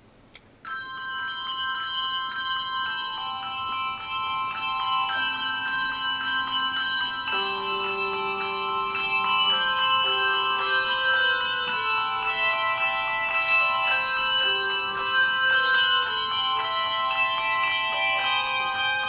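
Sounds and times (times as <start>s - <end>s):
handbells ringing: 0.6s - 19.0s.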